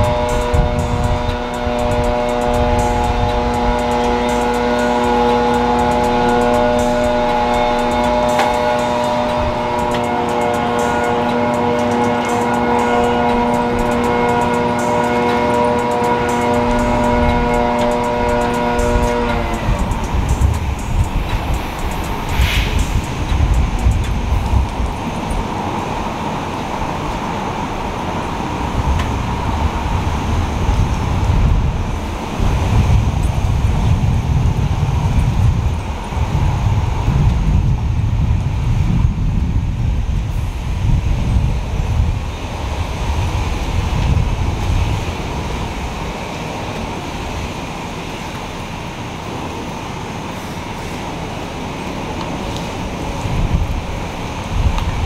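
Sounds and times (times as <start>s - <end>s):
moving vehicle rumble and hiss: 0.0s - 55.0s.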